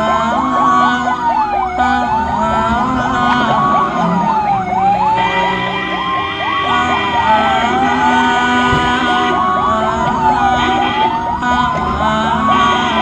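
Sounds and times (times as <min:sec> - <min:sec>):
ambulance siren wailing: 0:00.0 - 0:13.0
engine and road rumble: 0:00.0 - 0:13.0
siren yelp: 0:00.0 - 0:13.0.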